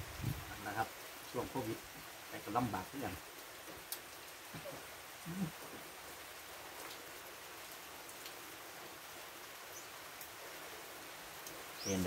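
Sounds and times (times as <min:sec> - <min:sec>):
faint ticks of raindrops: 0:00.0 - 0:12.0
steady rain hiss: 0:00.0 - 0:12.0.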